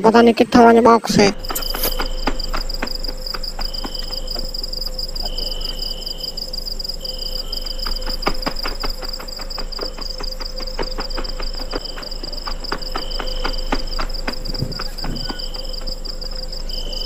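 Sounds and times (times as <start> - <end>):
insect trilling: 0.0 - 17.0.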